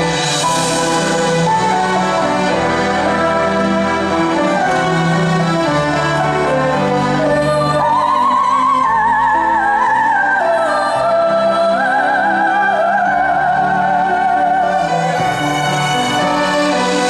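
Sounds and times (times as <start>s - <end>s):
grand piano: 0.0s - 17.0s
orchestra: 0.0s - 17.0s
soprano singing operatic melody: 0.0s - 17.0s.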